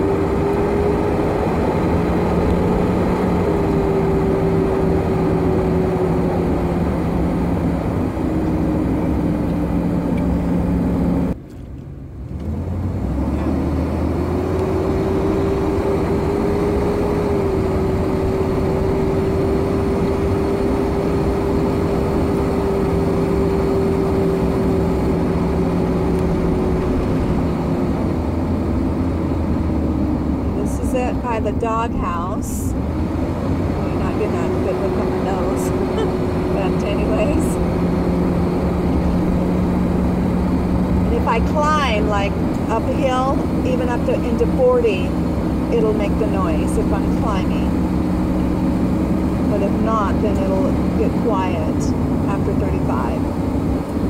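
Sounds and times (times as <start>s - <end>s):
van engine and road noise: 0.0s - 54.0s
whining engine tone: 0.0s - 54.0s.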